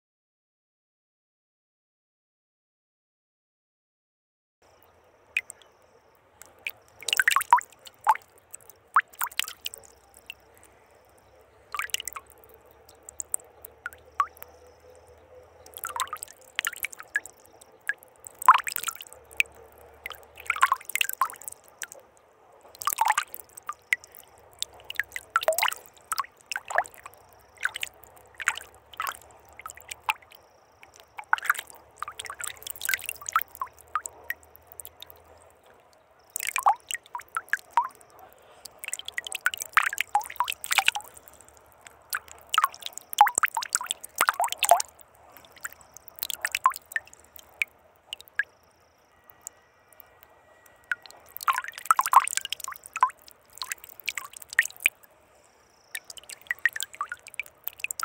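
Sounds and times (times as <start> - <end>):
faint steady hum: 4.6 - 58.0.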